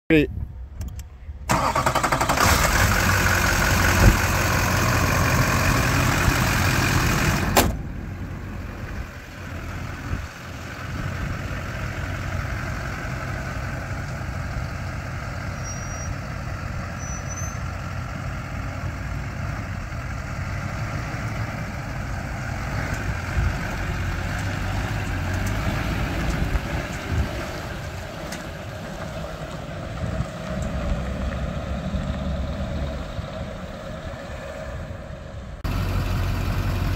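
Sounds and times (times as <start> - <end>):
truck engine running: 1.5 - 36.9.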